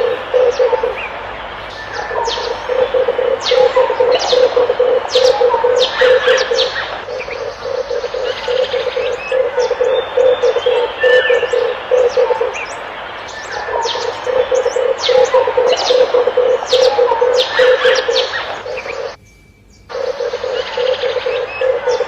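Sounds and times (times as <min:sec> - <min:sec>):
dove cooing: 0:00.0 - 0:19.2, 0:19.9 - 0:22.0
small birds chirping: 0:00.0 - 0:22.0.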